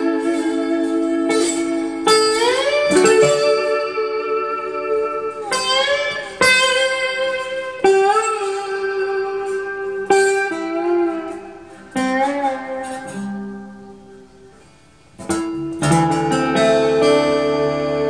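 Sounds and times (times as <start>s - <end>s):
acoustic guitar playing blues: 0.0s - 18.0s.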